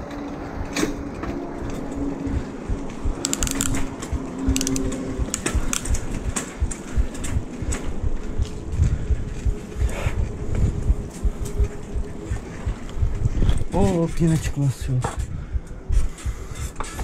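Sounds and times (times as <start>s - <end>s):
bike rattling and clicking: 0.0s - 14.5s
wind rumbling on microphone: 0.0s - 17.0s.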